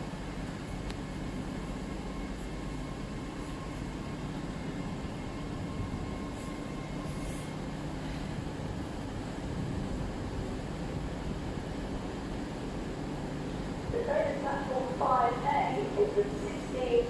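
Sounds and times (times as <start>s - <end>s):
faint high whine: 0.0s - 17.0s
train low rumble: 0.0s - 17.0s.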